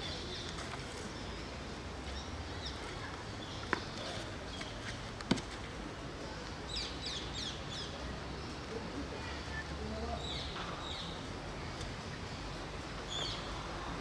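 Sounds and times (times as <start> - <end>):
birds chirping: 0.0 - 14.0
outdoor background: 0.0 - 14.0.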